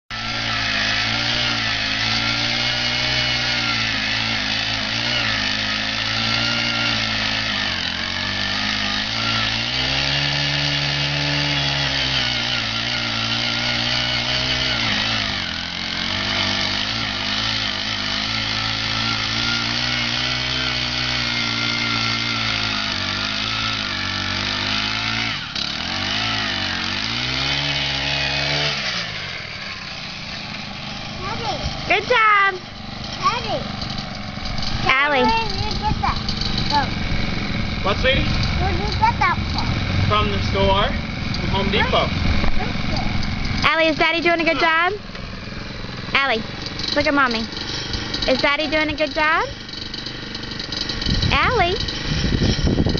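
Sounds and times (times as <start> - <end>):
earth auger engine running hard: 0.1 - 52.9.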